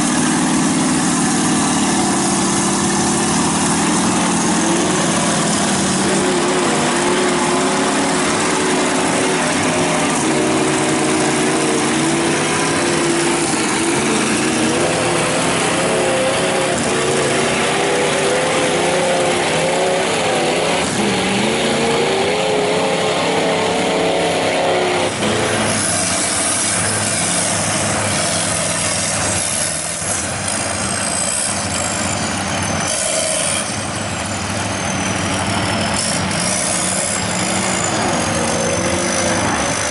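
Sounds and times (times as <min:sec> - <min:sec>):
rough rushing noise: 0:00.0 - 0:33.8
truck engine revving: 0:00.0 - 0:39.9.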